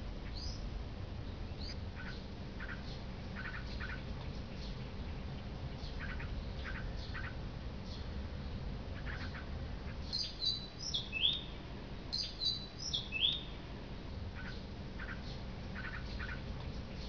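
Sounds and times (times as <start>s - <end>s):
low background noise: 0.0s - 17.0s
fainter lower bird chirps: 0.2s - 13.7s, 14.4s - 17.0s
bird singing: 0.2s - 17.0s.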